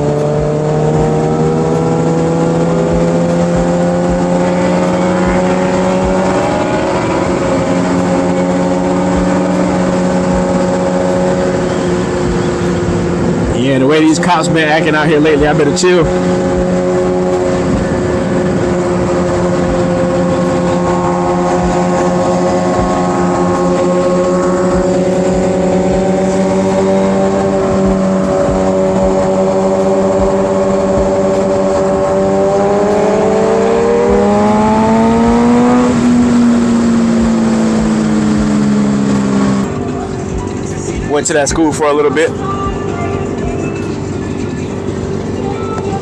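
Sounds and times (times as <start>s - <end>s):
motorcycle engine drone: 0.0s - 46.0s.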